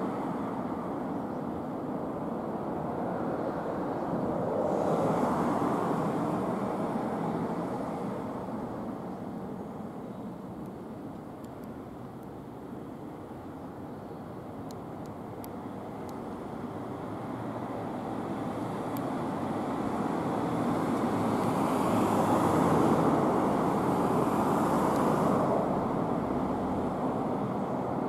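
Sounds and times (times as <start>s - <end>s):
traffic rumble and tyre hiss: 0.0s - 28.0s.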